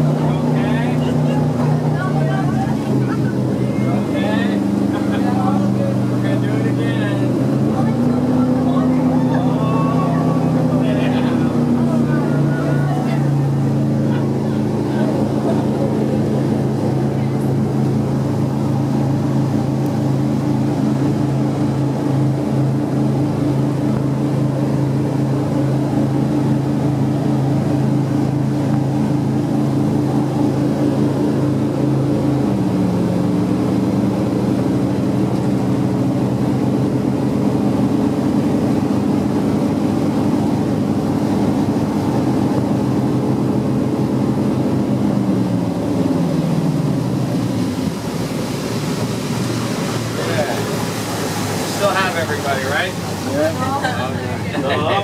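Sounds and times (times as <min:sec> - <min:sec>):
jet boat engine running: 0:00.0 - 0:55.0.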